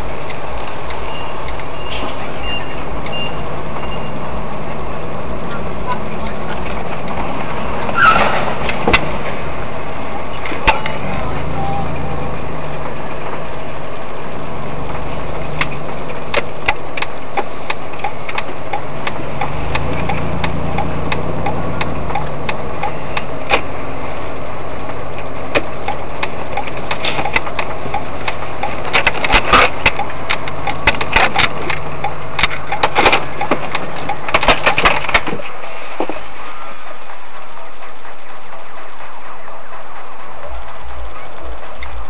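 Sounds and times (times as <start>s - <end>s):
sharp clicks and knocks: 0.0s - 39.2s
car engine running: 0.0s - 42.0s
light regular ticking: 0.0s - 42.0s.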